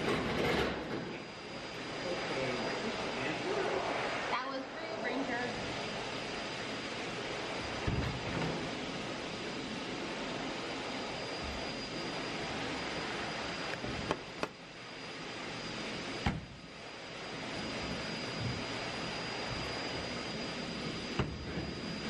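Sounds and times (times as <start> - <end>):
rushing blower noise: 0.0 - 22.0.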